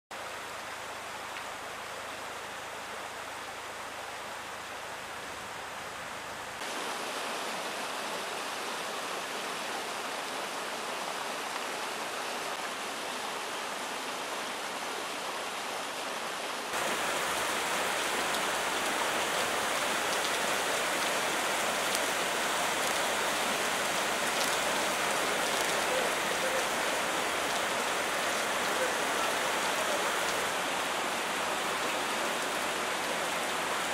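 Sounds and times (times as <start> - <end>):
heavy rain: 0.1 - 33.9
floodwater rushing: 0.2 - 33.9.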